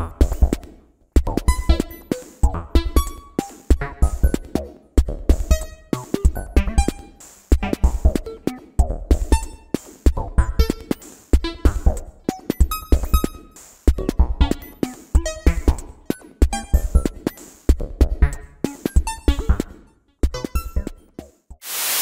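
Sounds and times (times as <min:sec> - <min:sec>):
electronic music with drum machine: 0:00.0 - 0:19.8.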